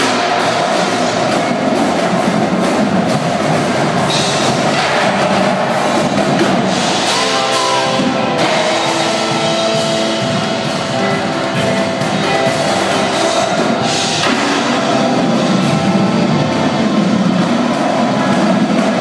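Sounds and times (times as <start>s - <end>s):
held pitched notes: 0.0s - 19.0s
marching drums: 0.0s - 19.0s.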